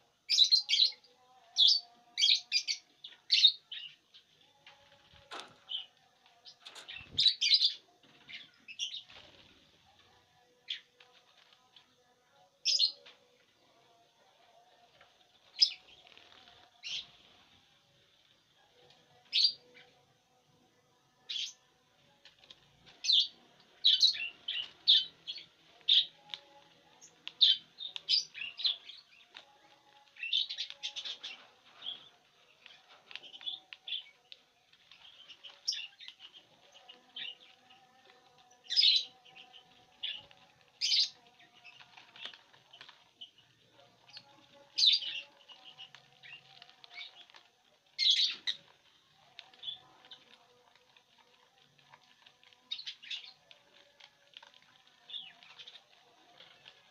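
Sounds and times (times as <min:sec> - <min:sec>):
lovebirds chirping: 0:00.0 - 0:17.5, 0:21.2 - 0:56.9.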